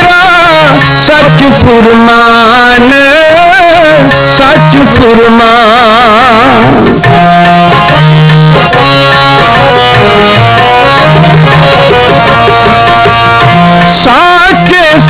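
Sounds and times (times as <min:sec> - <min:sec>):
harmonium melody: 0:00.0 - 0:15.0
tabla rhythm: 0:00.0 - 0:15.0.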